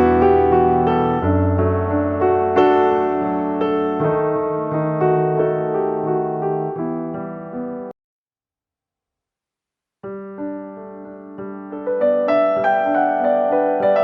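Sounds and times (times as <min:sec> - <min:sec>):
piano music: 0:00.0 - 0:08.0, 0:10.0 - 0:14.0.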